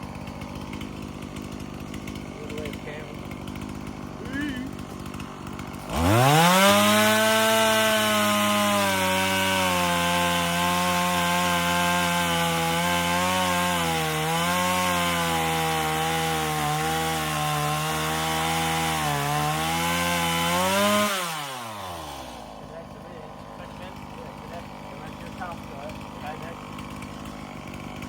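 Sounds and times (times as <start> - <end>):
chainsaw cutting into tree: 0.0 - 28.0.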